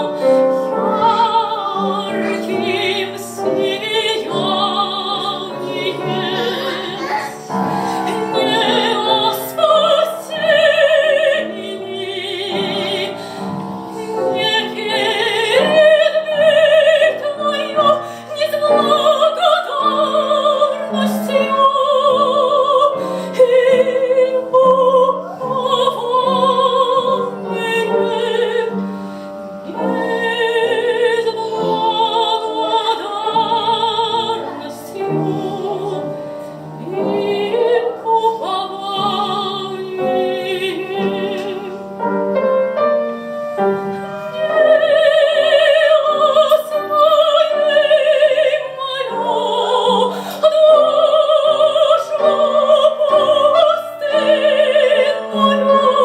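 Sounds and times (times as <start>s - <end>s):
woman singing classically: 0.0s - 29.0s, 29.6s - 42.0s, 44.0s - 56.0s
piano accompaniment: 0.0s - 56.0s.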